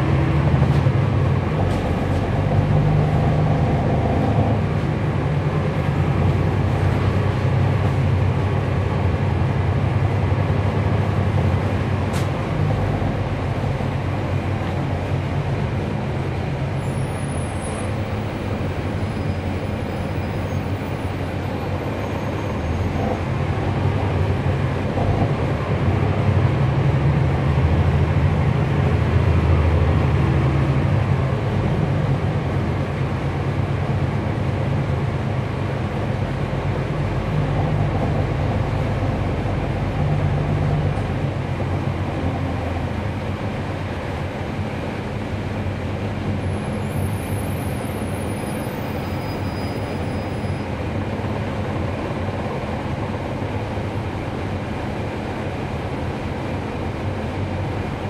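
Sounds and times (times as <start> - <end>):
bus diesel engine under load: 0.0 - 58.0.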